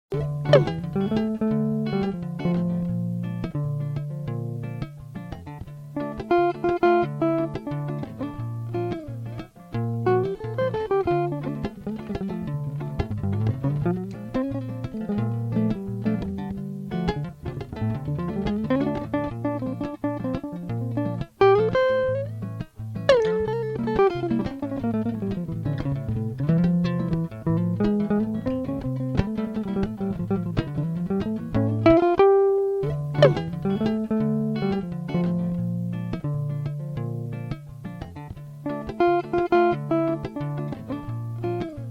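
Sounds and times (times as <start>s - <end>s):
plucked guitar sliding notes: 0.1s - 41.9s.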